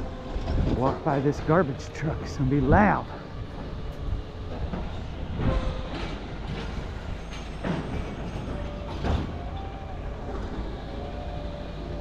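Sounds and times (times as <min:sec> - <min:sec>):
garbage truck engine rumble: 0:00.0 - 0:12.0.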